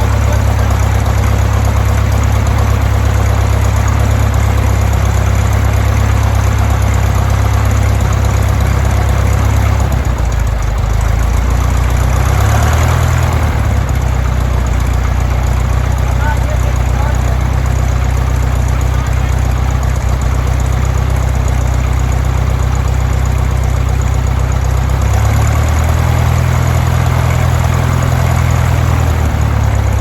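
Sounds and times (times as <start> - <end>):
aircraft engine running: 0.0 - 30.0.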